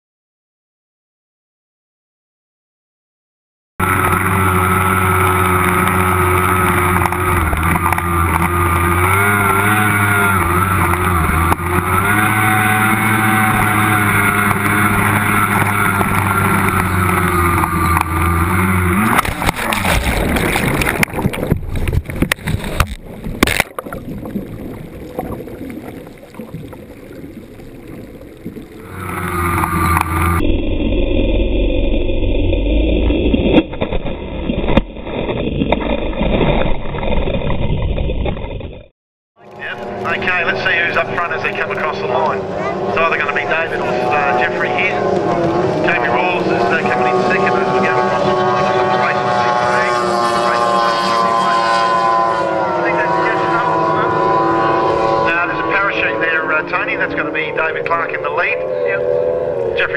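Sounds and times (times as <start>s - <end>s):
water splashing against hull: 3.8s - 31.9s, 33.0s - 58.4s
outboard motor at high revs: 3.8s - 38.8s, 39.4s - 59.9s.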